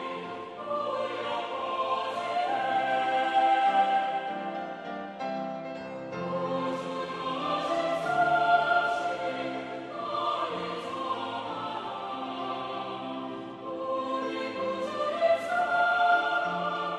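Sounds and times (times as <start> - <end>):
church choir singing: 0.0 - 16.9.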